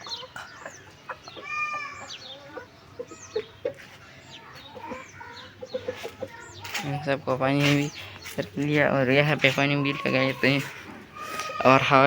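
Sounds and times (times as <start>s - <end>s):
chickens clucking and calling: 0.0s - 12.0s.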